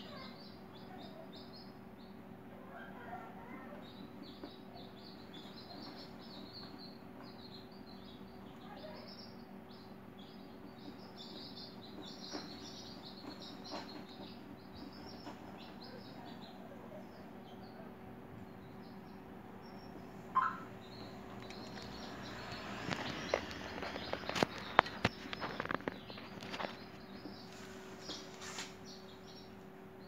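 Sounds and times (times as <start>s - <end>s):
small birds chirping: 0.0s - 30.0s
steady low hum: 0.1s - 30.0s.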